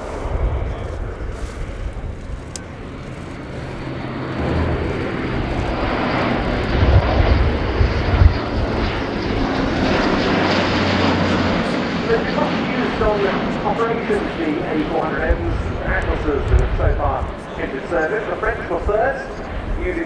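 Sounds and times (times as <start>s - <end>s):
turboprop aircraft droning: 0.0s - 20.0s.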